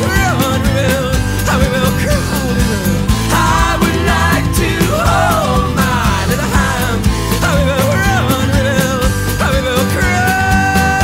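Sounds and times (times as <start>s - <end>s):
song with steady beat: 0.0s - 11.0s.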